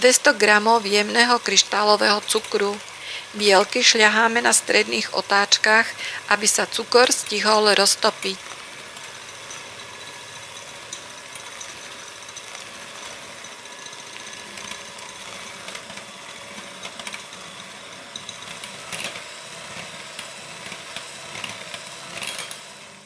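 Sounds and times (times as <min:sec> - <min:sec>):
electric hand mixer running: 0:00.0 - 0:23.0.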